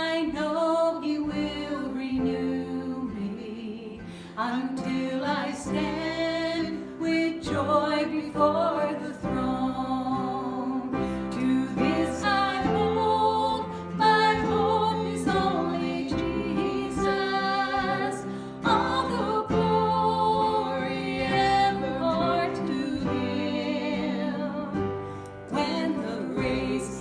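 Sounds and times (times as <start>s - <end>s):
worship song with instruments: 0.0s - 27.0s.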